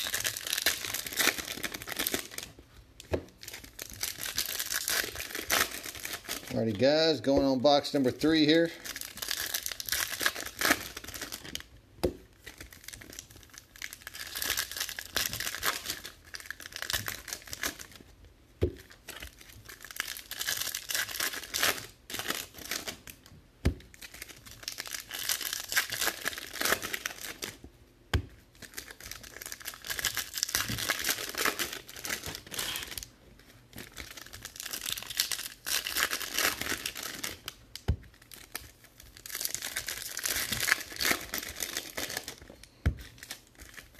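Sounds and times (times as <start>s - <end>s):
foil wrappers tearing and crinkling: 0.0s - 2.6s, 3.3s - 6.7s, 7.6s - 11.7s, 12.3s - 18.0s, 18.8s - 23.2s, 23.9s - 27.6s, 28.5s - 43.9s.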